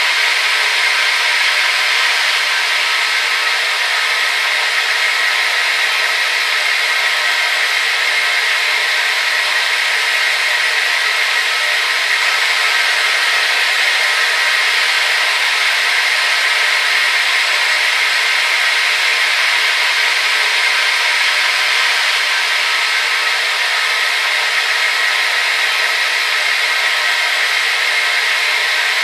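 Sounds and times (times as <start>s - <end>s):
hair dryer blowing air: 0.0s - 29.0s.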